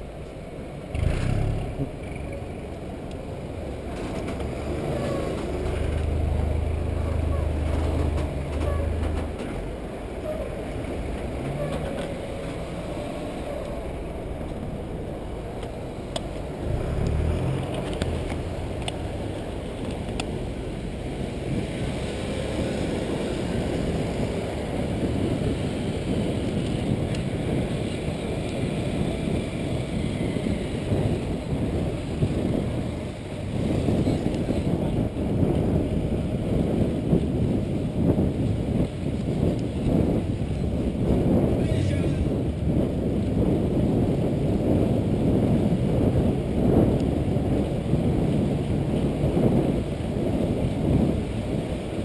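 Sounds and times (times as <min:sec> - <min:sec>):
car traffic: 0:00.0 - 0:52.0
wind rushing over microphone: 0:00.0 - 0:52.0.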